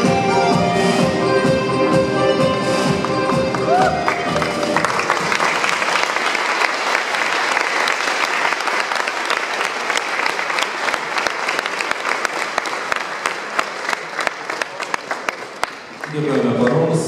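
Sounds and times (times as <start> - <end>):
audience applauding: 2.8 - 17.0.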